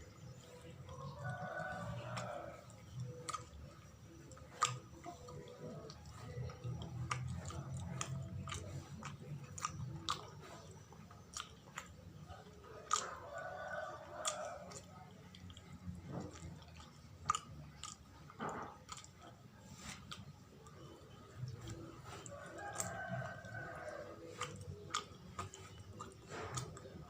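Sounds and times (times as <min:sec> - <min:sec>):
mouth chewing sticky cake: 0:00.0 - 0:27.0
wet smacks and clicks: 0:00.1 - 0:27.0.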